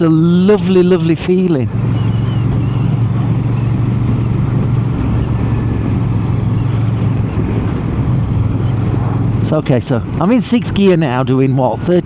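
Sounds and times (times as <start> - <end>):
motorcycle engine cruising: 0.0 - 12.0
road noise: 0.0 - 12.0
wind noise: 0.0 - 12.0.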